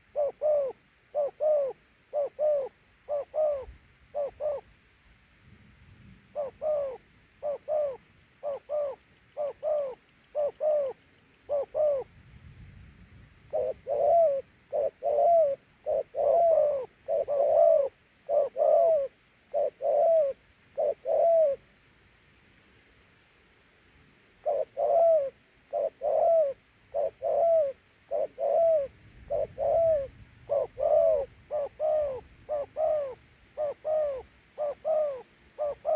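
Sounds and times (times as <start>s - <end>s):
dove cooing: 0.0s - 4.7s, 6.3s - 12.1s, 13.4s - 21.7s, 24.4s - 35.9s.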